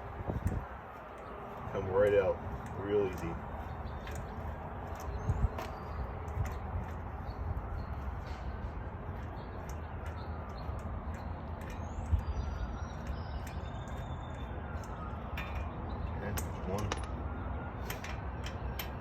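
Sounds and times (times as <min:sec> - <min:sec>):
steady low rumble: 0:00.0 - 0:17.7
birds chirping: 0:00.0 - 0:19.0.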